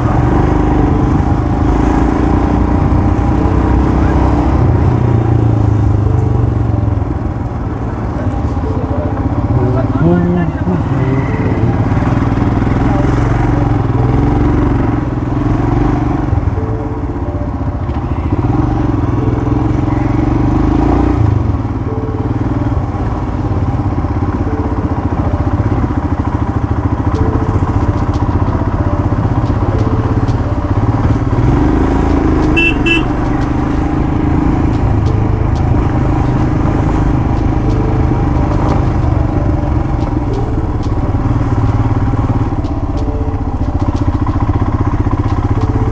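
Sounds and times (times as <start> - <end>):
motorcycle engine running: 0.0 - 45.9
horn beep: 8.2 - 23.4, 24.4 - 45.9.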